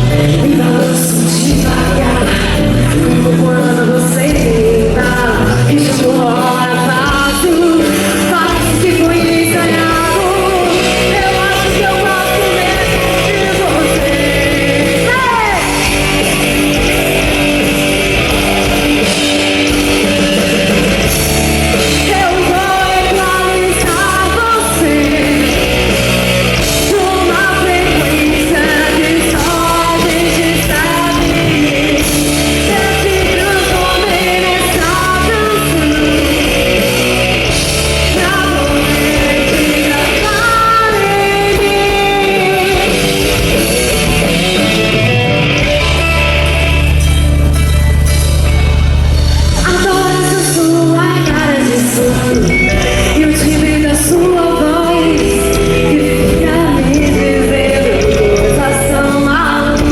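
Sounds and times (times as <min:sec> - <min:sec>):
bass guitar: 0:00.0 - 0:59.9
distorted electric guitars: 0:00.0 - 0:59.9
drums: 0:00.0 - 0:59.9
person singing: 0:00.0 - 0:59.9.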